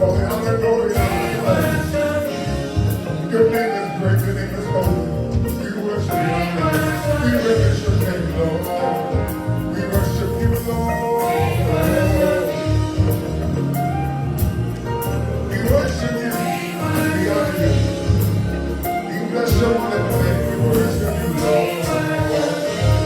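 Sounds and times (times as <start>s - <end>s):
gospel choir singing: 0.0s - 23.0s
live band with bass and drums: 0.0s - 23.0s.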